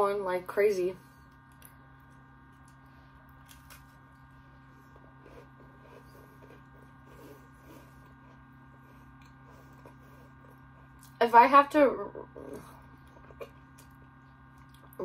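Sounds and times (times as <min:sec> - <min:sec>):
steady electrical hum: 0:00.0 - 0:15.0
person chewing crunchy cookie: 0:01.1 - 0:11.2, 0:12.3 - 0:15.0.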